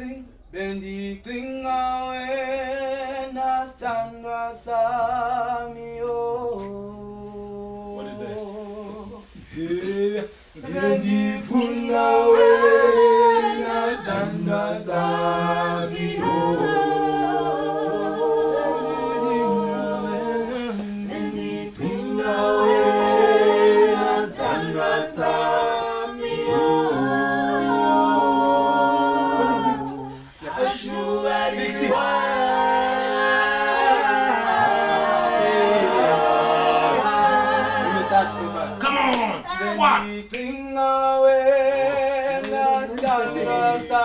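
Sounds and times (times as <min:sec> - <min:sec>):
group singing a cappella: 0:00.0 - 0:44.0.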